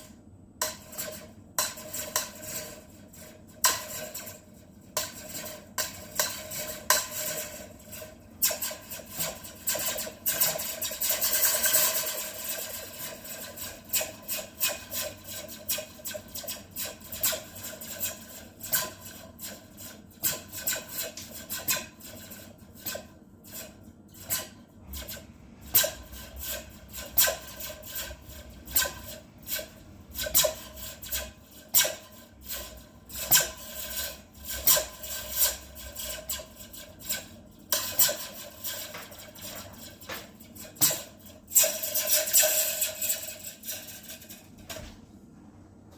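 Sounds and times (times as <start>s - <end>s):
metal spring laser-like zaps: 0.8s - 4.4s, 5.0s - 44.7s.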